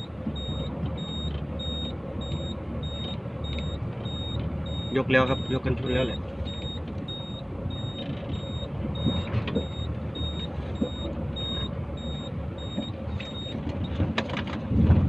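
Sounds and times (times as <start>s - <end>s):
high warning beeper: 0.0s - 13.6s
truck diesel engine running: 0.0s - 15.0s.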